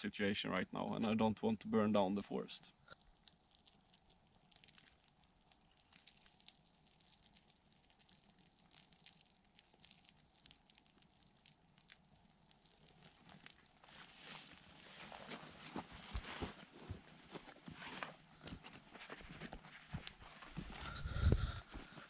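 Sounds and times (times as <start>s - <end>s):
light ticks and crackles: 2.6s - 22.0s.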